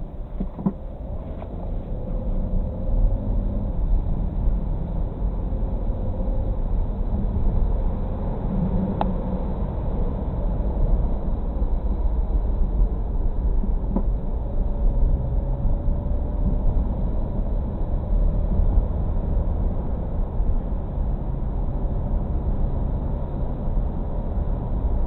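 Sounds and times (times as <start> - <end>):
car road noise on wet road: 0.0 - 25.0.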